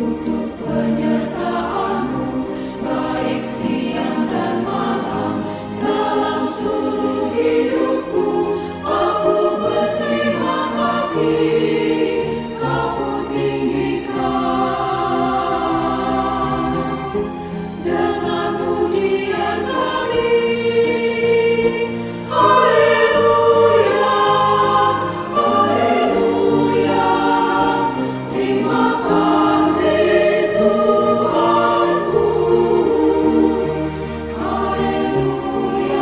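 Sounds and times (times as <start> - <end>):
choir singing in harmony: 0.0 - 36.0
musical accompaniment: 0.0 - 36.0.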